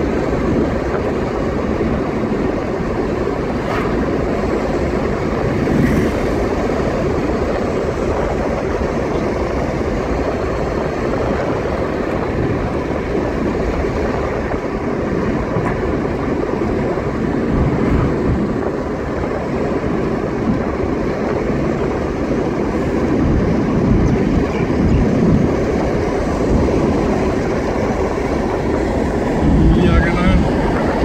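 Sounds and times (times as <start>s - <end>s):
car driving on paved road: 0.0s - 31.0s.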